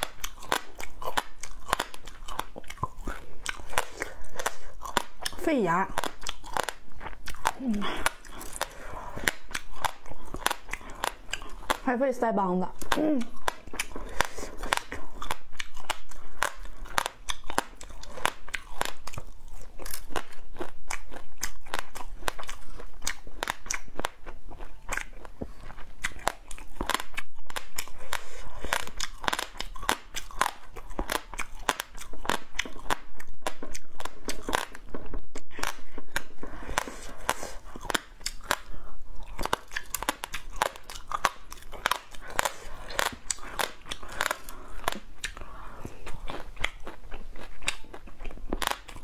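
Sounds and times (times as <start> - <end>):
crunching and chewing: 0.0 - 49.0.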